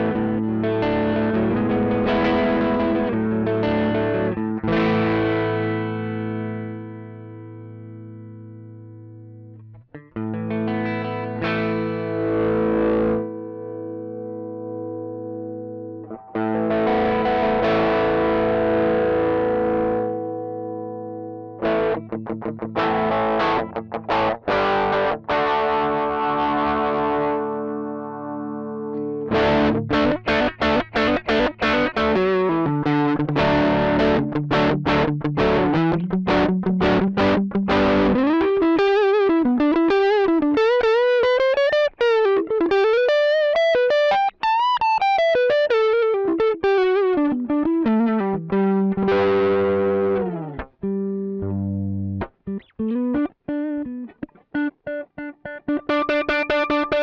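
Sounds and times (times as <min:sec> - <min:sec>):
overdriven electric guitar: 0:00.0 - 0:57.0.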